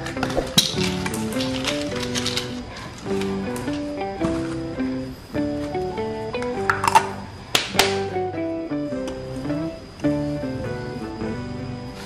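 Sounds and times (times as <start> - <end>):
plucked-string melody: 0.0 - 10.6.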